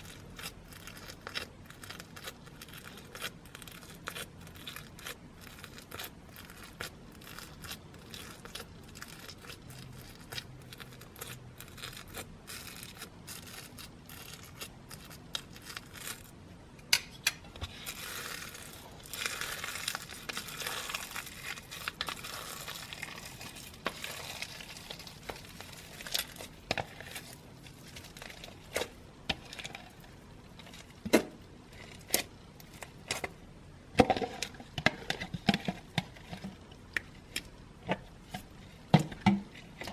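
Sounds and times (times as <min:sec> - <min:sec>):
slime crackling and popping: 0:00.0 - 0:33.4.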